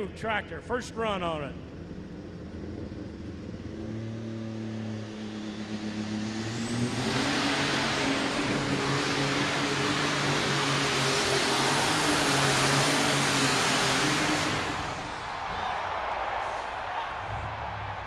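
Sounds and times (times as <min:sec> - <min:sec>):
tractor engine revving: 0:00.0 - 0:15.3.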